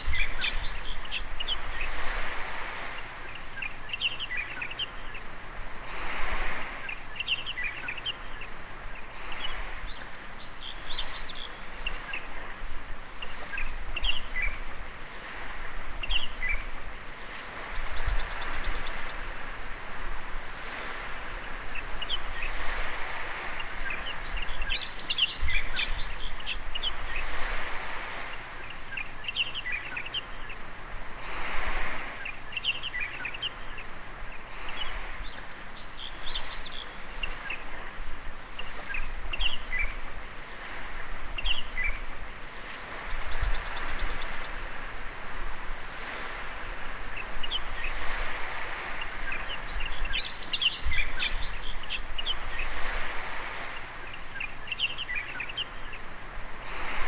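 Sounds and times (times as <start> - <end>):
birds chirping: 0.0 - 5.4, 6.6 - 30.7, 31.8 - 57.0
small waves washing onto sand: 0.0 - 57.0.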